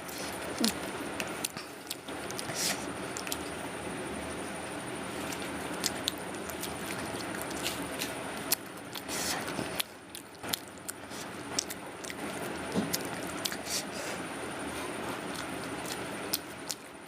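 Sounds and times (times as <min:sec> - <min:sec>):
chewing and mouth clicks: 0:00.1 - 0:03.6, 0:05.2 - 0:13.9, 0:15.2 - 0:16.9.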